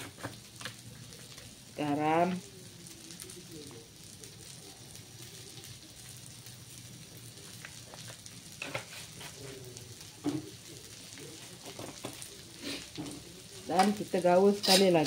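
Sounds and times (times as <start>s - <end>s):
leaves sizzling in a wok: 0.0s - 15.0s.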